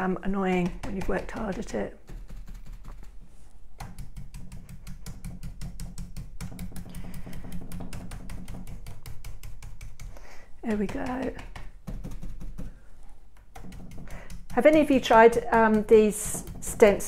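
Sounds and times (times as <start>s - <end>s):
stencil brush tapping: 0.0s - 17.0s.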